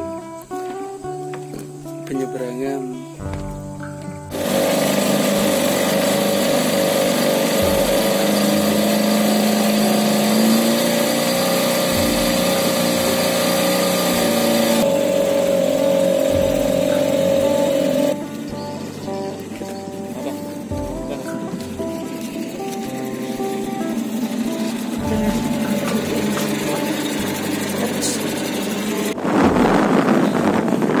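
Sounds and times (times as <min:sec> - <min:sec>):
outboard motor running: 0:04.3 - 0:31.0.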